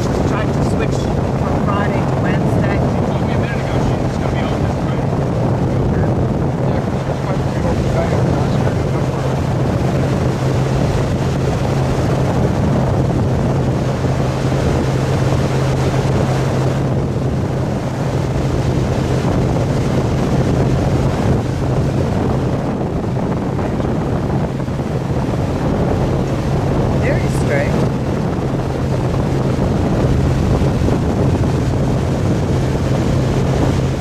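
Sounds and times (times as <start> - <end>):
boat wake and spray rushing: 0.0 - 34.0
motorboat engine droning: 0.0 - 34.0
wind buffeting microphone: 0.0 - 34.0.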